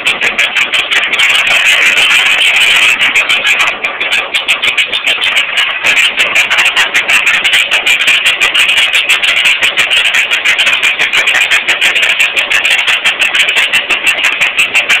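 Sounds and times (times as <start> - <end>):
hydraulic breaker hammering rock: 0.0 - 15.0.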